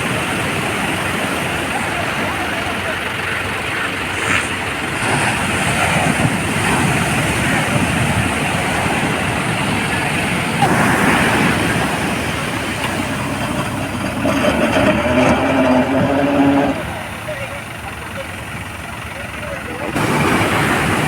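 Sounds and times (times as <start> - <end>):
sea surf breaking on beach: 0.0 - 21.0.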